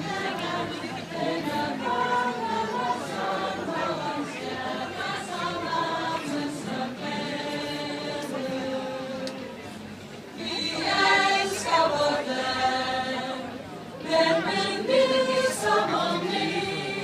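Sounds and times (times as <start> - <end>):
group singing without instruments: 0.0 - 9.5, 10.4 - 17.0.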